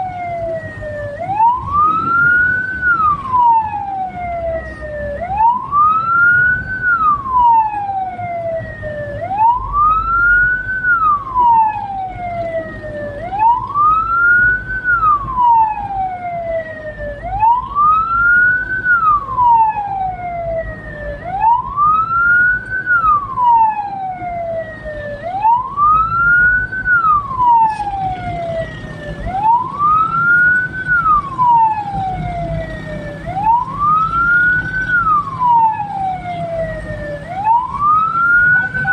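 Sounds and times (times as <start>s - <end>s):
electronic siren wailing: 0.0s - 38.9s
vehicle rumble: 0.0s - 38.9s.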